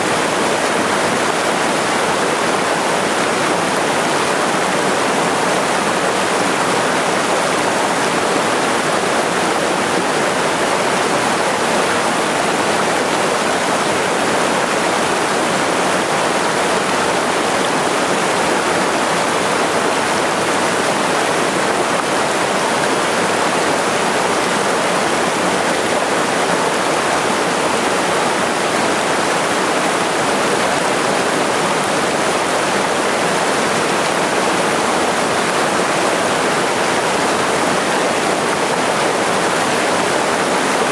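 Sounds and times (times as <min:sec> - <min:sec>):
waterfall rushing over boulders: 0:00.0 - 0:40.9.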